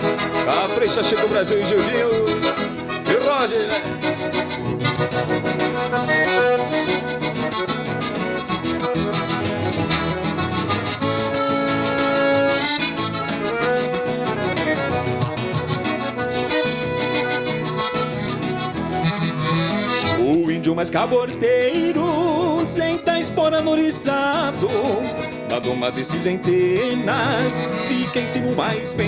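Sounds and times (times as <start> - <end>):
accordions playing melody: 0.0 - 29.0.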